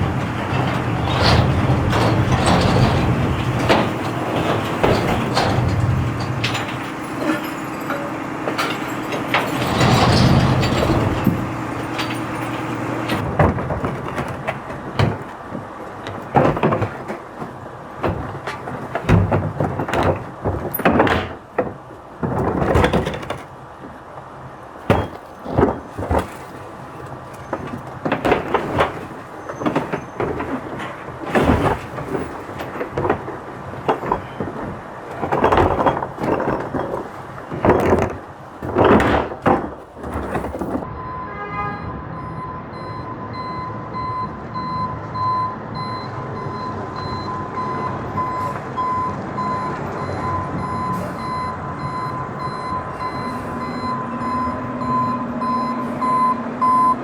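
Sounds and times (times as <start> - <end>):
recyclables banging: 0.0 - 57.0
truck rumbling: 0.0 - 57.0.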